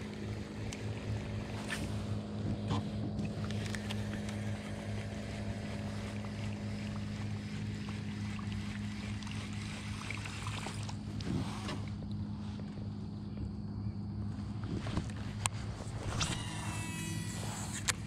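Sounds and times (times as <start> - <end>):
small boat motor humming: 0.0 - 18.0.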